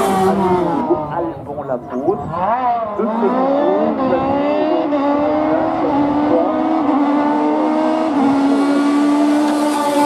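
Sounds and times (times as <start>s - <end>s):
race car engine revving: 0.0s - 1.4s, 2.0s - 10.0s.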